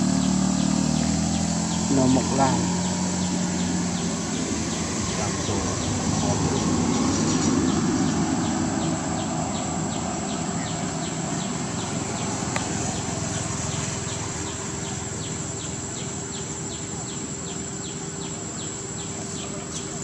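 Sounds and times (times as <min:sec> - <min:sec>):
insect chirps: 0:00.0 - 0:20.0
insects droning: 0:00.0 - 0:20.0.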